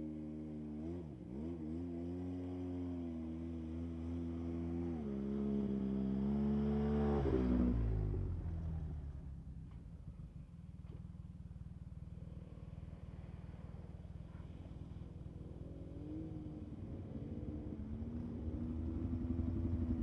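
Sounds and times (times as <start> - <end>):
atv engine passing by: 0.8 - 9.2, 12.2 - 20.0.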